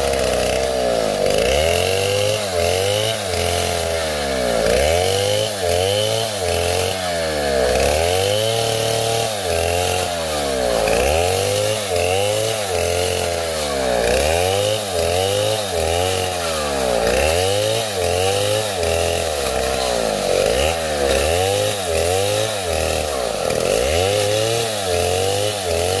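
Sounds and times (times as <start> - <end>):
chainsaw revving and cutting: 0.0 - 26.0.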